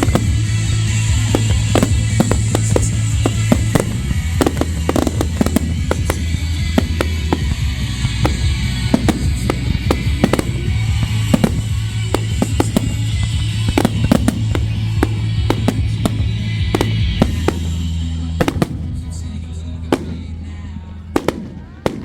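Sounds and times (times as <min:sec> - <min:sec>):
fireworks bangs and crackles: 0:00.0 - 0:22.0
loud music with bass: 0:00.0 - 0:22.0.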